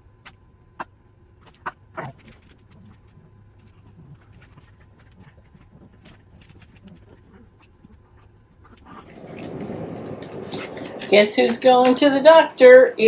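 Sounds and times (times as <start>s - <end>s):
low steady hum: 0.0s - 13.0s
dog claws clicking and scuffling: 1.4s - 12.4s.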